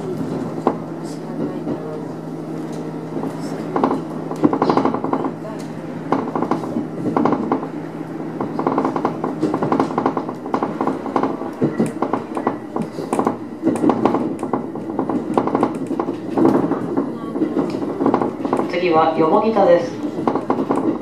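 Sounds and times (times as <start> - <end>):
train running rumble: 0.0 - 21.0
wheels clattering over rails: 0.0 - 21.0.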